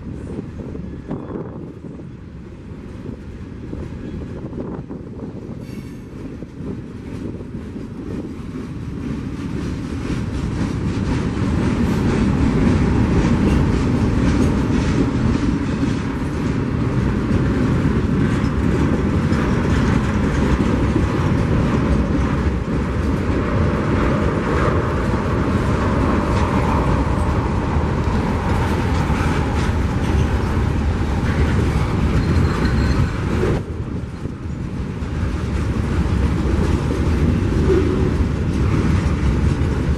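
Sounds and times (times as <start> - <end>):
train rumbling past: 0.0 - 39.9
wheels clicking over rail joints: 5.5 - 39.9.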